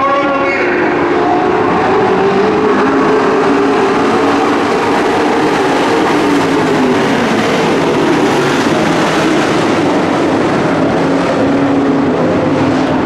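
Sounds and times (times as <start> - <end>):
race truck engines passing: 0.0 - 13.0.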